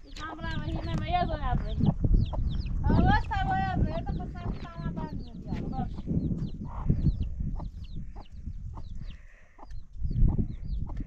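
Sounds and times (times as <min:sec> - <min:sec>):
chickens clucking: 0:00.0 - 0:11.0
chicks peeping: 0:00.0 - 0:11.0
wind rumble on microphone: 0:00.0 - 0:11.0.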